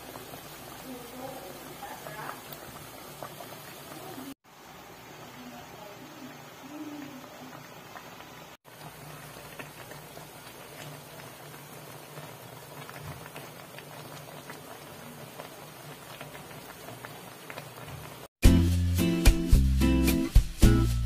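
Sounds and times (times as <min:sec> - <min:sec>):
pot simmering and bubbling: 0:00.0 - 0:18.4.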